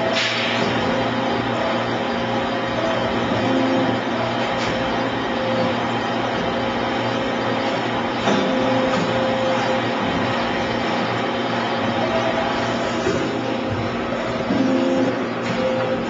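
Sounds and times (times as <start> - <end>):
bending machine hum and whine: 0.0 - 16.0.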